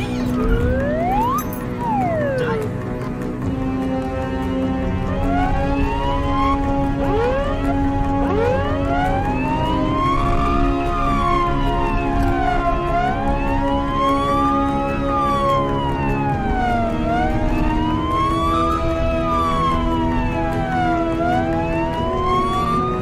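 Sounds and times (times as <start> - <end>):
siren wailing: 0.0 - 3.2, 4.9 - 23.0.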